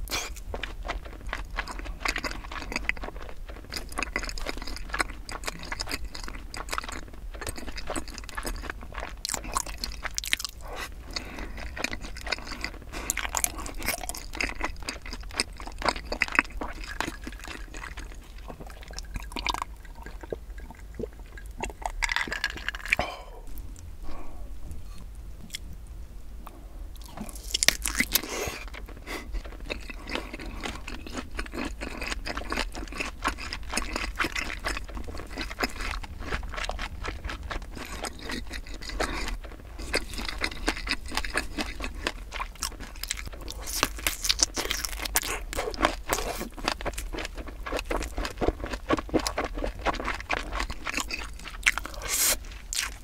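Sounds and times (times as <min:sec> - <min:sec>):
wet chewing: 0:00.0 - 0:24.3, 0:26.4 - 0:53.0.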